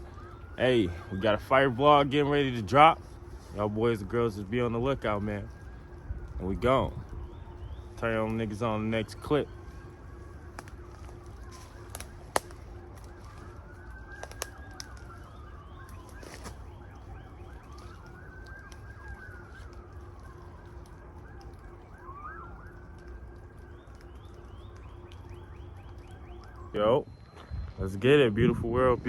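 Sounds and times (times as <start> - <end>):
emergency vehicle siren wailing: 0.0 - 29.0
low steady rumble: 0.0 - 29.0.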